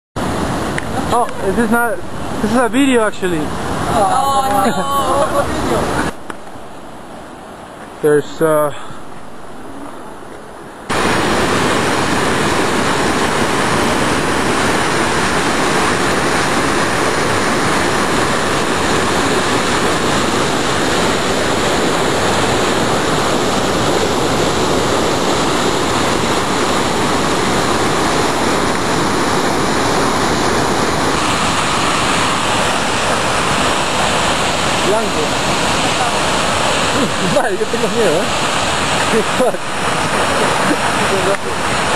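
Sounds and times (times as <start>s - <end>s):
waterfall rushing: 0.2s - 41.9s.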